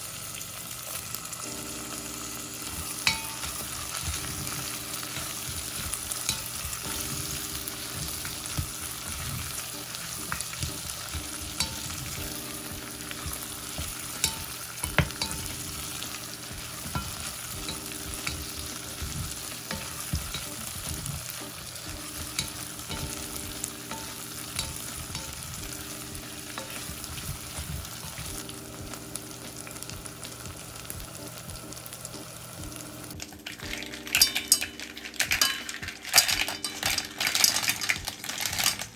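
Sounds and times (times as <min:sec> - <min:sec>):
food sizzling in a pan: 0:00.0 - 0:38.9
utensil clicking while stirring: 0:02.7 - 0:28.4, 0:33.2 - 0:38.9.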